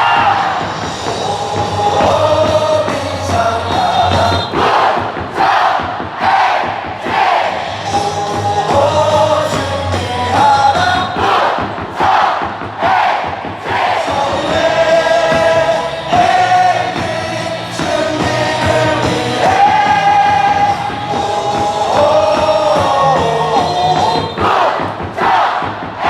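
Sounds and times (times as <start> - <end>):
amplified stadium music: 0.0 - 26.0
crowd singing in unison: 0.0 - 26.0.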